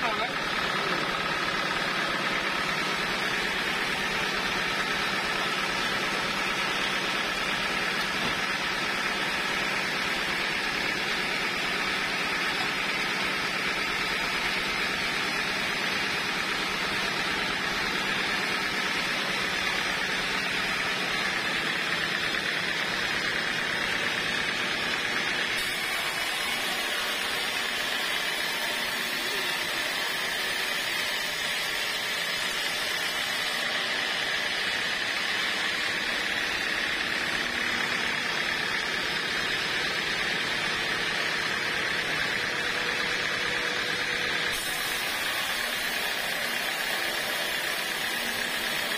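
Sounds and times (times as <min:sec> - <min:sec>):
band saw cutting log: 0:00.0 - 0:48.9.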